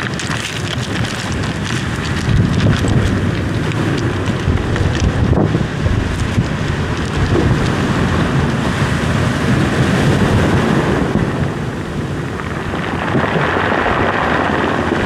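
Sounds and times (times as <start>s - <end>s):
surf washing over pebbles: 0.0s - 15.0s
wind buffeting microphone: 0.0s - 15.0s.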